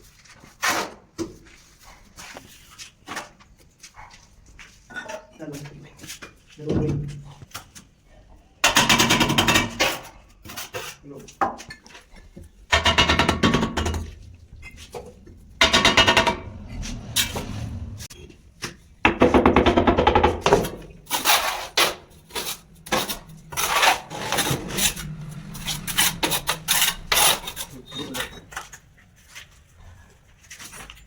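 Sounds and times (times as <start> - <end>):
knocks and scrapes on formwork: 0.2 - 7.8, 8.6 - 29.6.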